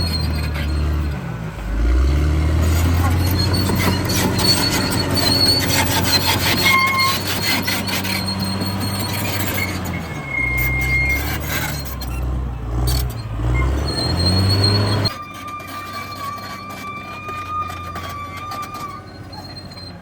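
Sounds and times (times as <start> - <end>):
bulldozer diesel engine under load: 0.0 - 20.0
steel tracks squealing: 0.0 - 20.0.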